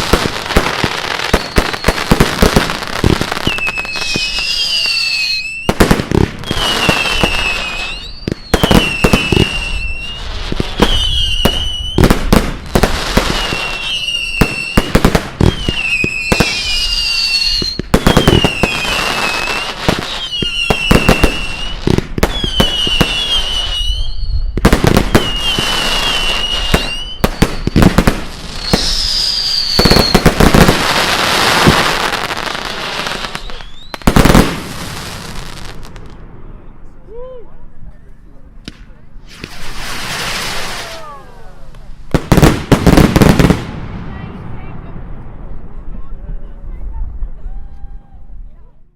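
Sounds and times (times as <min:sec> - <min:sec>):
fireworks crackling hiss: 0:00.0 - 0:36.2, 0:38.7 - 0:44.1
fireworks bangs: 0:00.0 - 0:36.8, 0:38.6 - 0:48.4
fireworks whistling: 0:00.0 - 0:36.8, 0:38.7 - 0:44.2.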